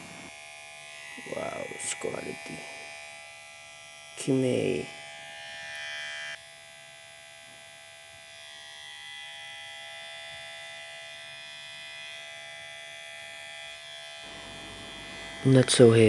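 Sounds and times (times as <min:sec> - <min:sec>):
hair clipper buzzing: 0:00.0 - 0:16.0.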